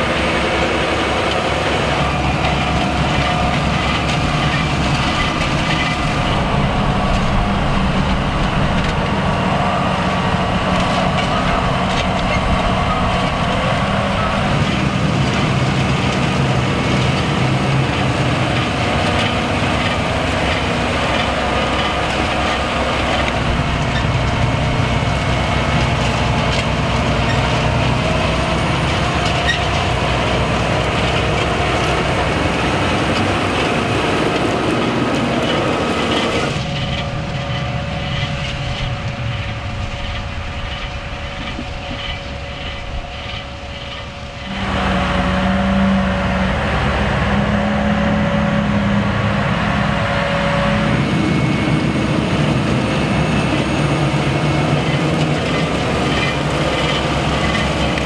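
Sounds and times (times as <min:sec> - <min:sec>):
planter clatter: 0:00.0 - 0:45.7, 0:50.8 - 0:58.0
tractor diesel engine under load: 0:00.0 - 0:58.0.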